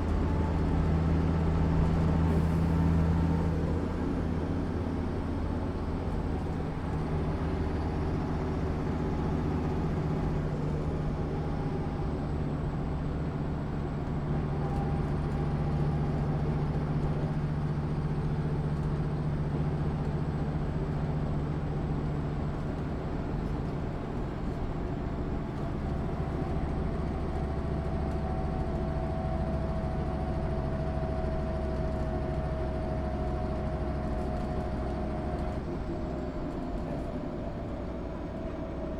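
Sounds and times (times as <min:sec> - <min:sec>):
diesel bus engine drone: 0:00.0 - 0:38.9.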